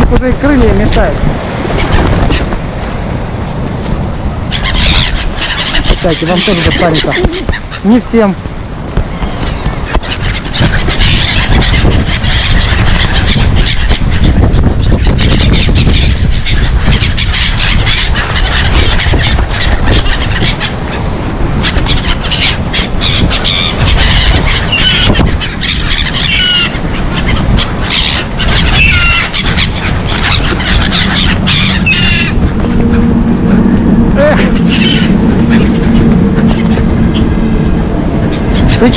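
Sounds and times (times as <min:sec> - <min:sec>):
gulls squealing and calling: 0:00.0 - 0:38.9
wind rumble on microphone: 0:00.0 - 0:38.9
wings flapping: 0:00.0 - 0:38.9.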